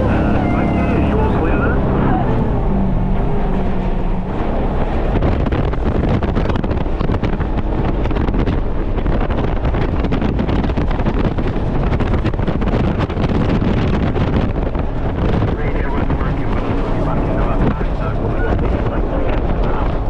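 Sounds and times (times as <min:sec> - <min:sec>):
jet boat engine: 0:00.0 - 0:20.0
wind buffeting microphone: 0:00.0 - 0:20.0.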